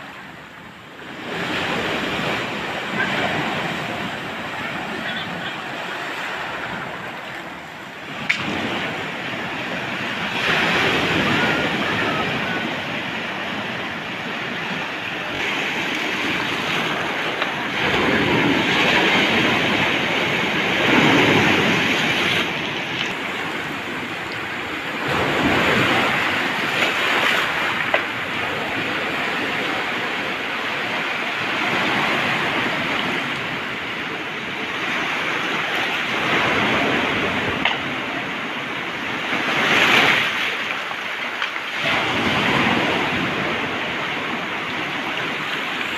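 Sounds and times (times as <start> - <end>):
surf washing up pebble beach: 1.0 - 45.9.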